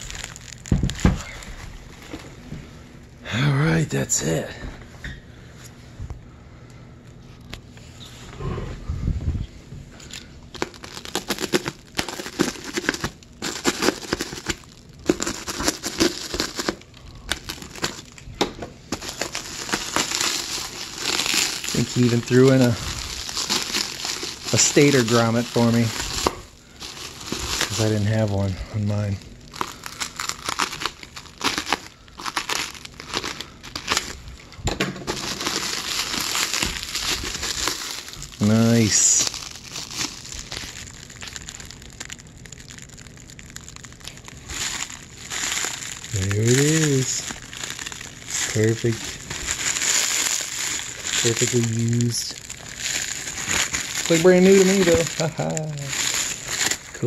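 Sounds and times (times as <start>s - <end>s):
plastic wrap crinkling: 0.0s - 3.2s, 9.9s - 57.0s.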